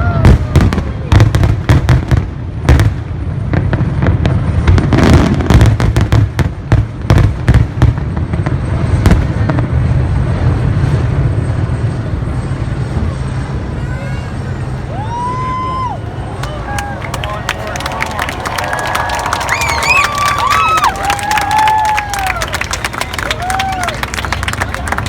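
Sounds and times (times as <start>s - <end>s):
fireworks bangs and crackles: 0.0s - 25.0s
deep rolling rumble: 0.2s - 25.0s.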